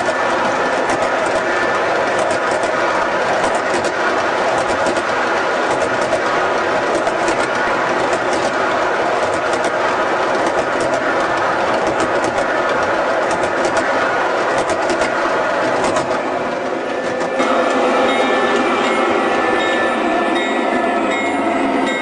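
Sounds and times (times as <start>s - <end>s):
sharp clicks on track: 0.0s - 17.8s
model train wheels rumbling: 0.0s - 18.6s.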